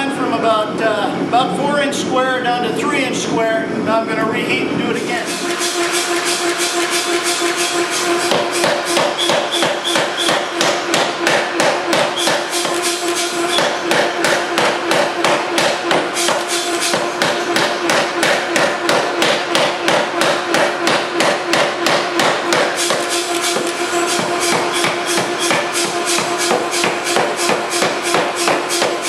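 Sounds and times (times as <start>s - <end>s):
steady hum: 0.0s - 29.0s
forging hammer striking hot metal: 5.2s - 29.0s.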